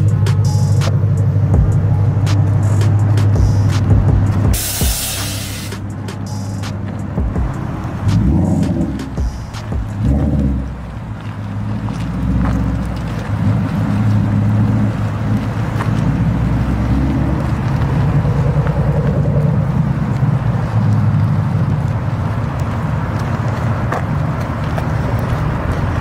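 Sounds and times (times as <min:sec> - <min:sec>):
car exhaust at low revs: 0:00.0 - 0:26.0.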